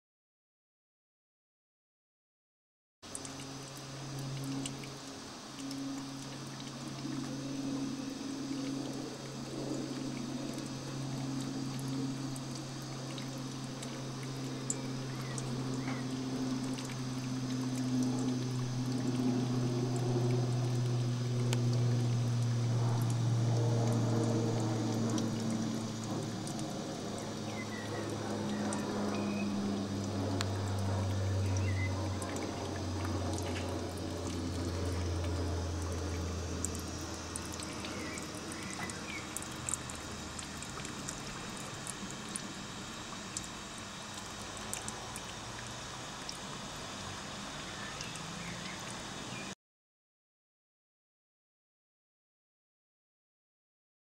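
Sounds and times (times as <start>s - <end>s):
steam and water gurgling: 3.1s - 49.5s
steamer humming: 3.6s - 49.4s.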